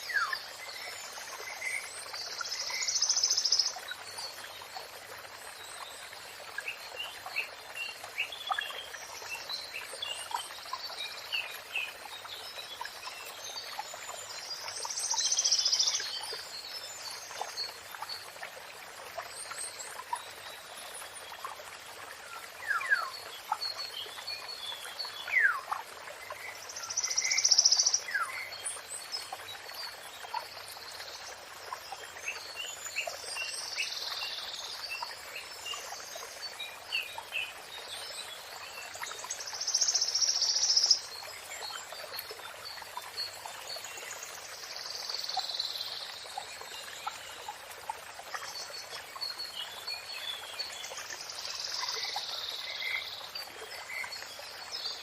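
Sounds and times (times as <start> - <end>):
flowing water rushing: 0.0 - 55.0
songbirds singing and calling: 0.0 - 55.0.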